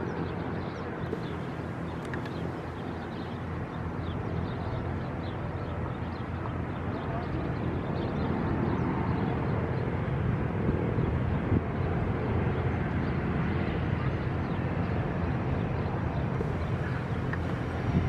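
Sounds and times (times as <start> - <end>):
jet engines running at low power: 0.0 - 18.0.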